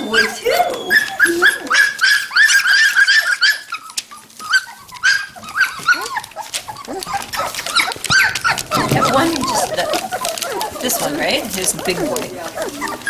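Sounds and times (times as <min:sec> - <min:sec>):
puppies whining and yipping: 0:00.0 - 0:13.0.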